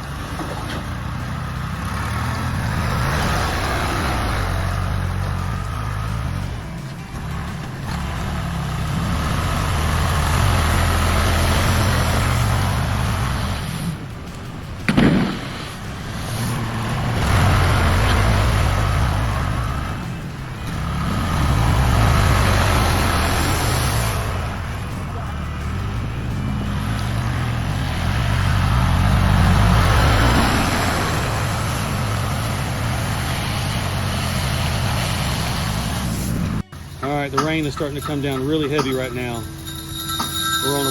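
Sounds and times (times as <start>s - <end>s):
heavy vehicle engine rumbling: 0.0s - 40.9s.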